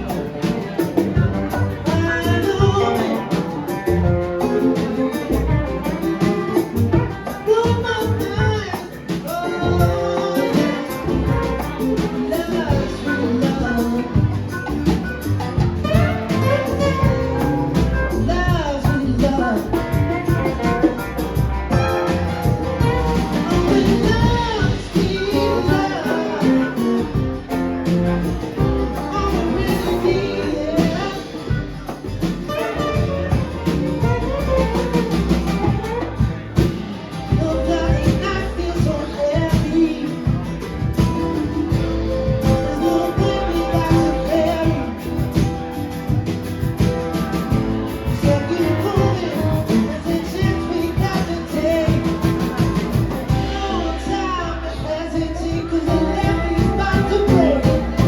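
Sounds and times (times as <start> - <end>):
drums: 0.0 - 58.0
guitar: 0.0 - 58.0
person singing: 0.0 - 58.0.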